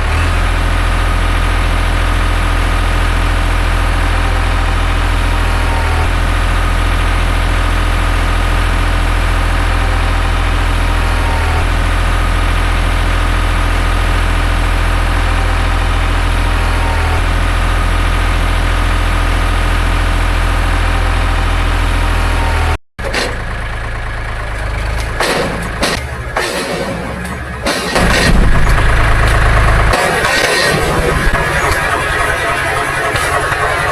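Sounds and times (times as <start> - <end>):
sawmill engine running: 0.0 - 33.9.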